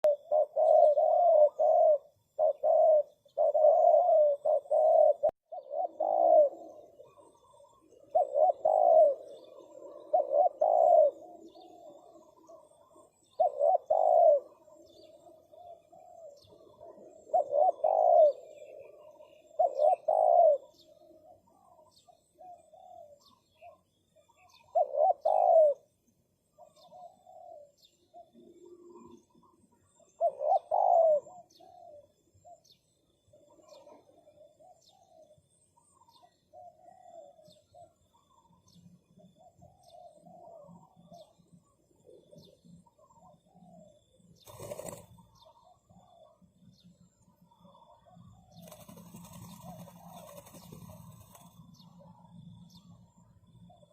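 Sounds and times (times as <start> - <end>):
doves cooing: 0.0 - 53.9
small birds chirping: 0.0 - 53.9.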